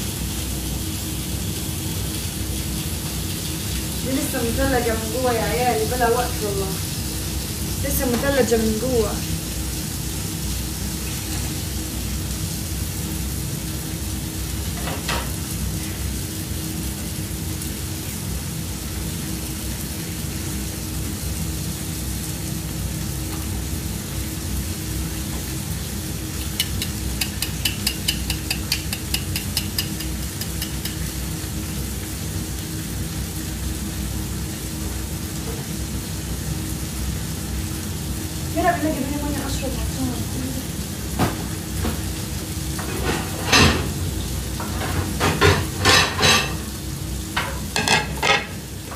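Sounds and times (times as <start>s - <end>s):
food sizzling in a pan: 0.0s - 48.9s.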